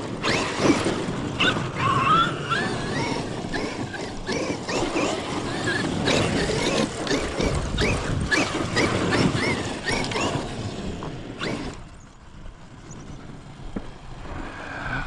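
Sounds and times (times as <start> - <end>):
electric motor whining: 0.0 - 12.1.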